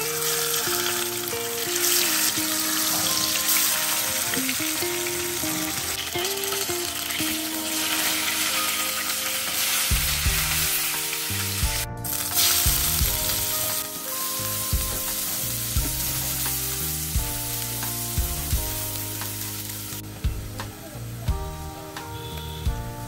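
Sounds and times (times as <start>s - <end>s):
fish frying in hot oil: 0.0s - 20.6s
background music with bass: 0.0s - 23.0s
onions sizzling while stirred: 0.0s - 23.0s.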